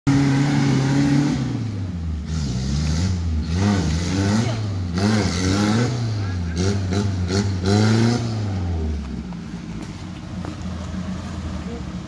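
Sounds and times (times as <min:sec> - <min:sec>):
vehicle engine running: 0:00.1 - 0:12.0.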